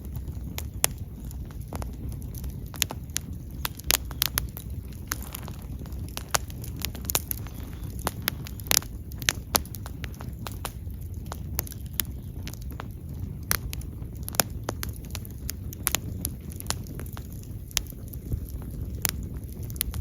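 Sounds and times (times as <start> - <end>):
fire crackling and popping: 0.0 - 20.0
fire low rush: 0.0 - 20.0.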